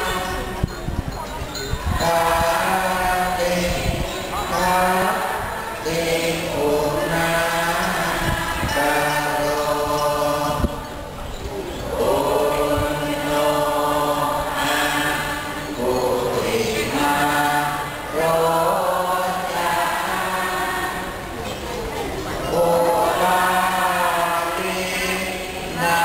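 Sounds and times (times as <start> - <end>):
voices chanting together: 0.0 - 26.0.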